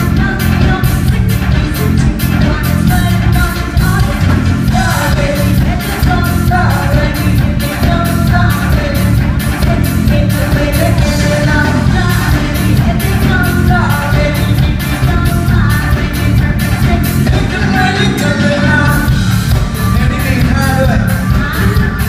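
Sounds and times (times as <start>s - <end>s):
heavy bass: 0.0s - 22.0s
live rock band playing: 0.0s - 22.0s
person singing: 0.0s - 22.0s
steady drum beat: 0.0s - 22.0s.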